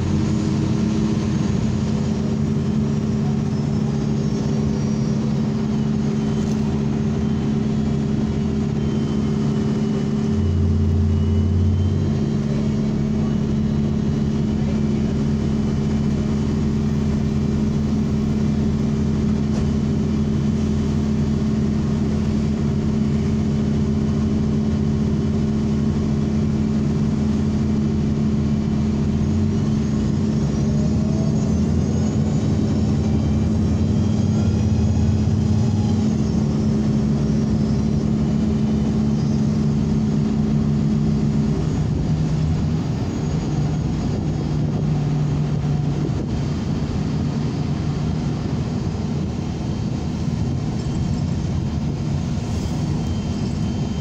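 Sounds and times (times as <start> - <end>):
faint high whine: 0.0 - 42.0, 48.9 - 54.0
bus engine drone: 0.0 - 54.0.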